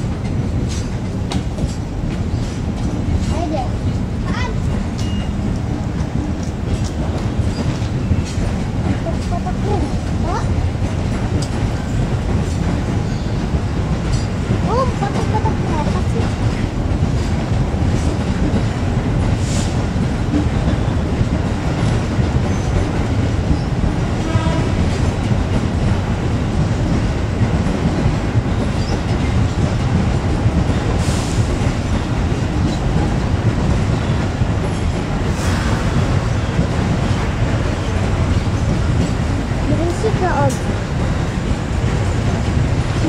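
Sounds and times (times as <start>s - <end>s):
diesel locomotive: 0.0s - 43.0s
train wheels rumbling on rails: 0.0s - 43.0s.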